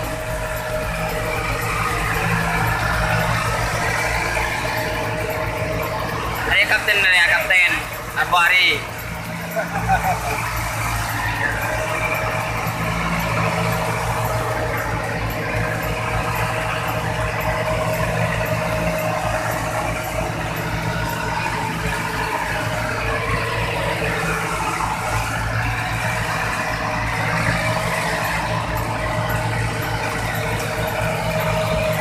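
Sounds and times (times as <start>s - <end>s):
boat engine running: 0.0s - 32.0s.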